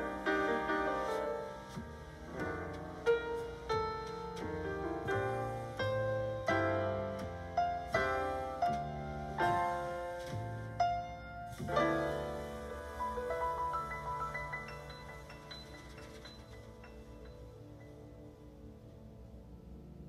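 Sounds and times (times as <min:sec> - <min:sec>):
low held bass notes: 0:00.0 - 0:20.0.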